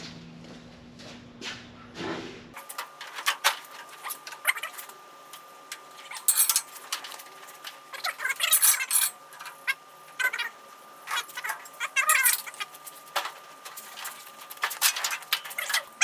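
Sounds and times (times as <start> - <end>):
metal tools clinking and rattling: 2.6 - 16.0.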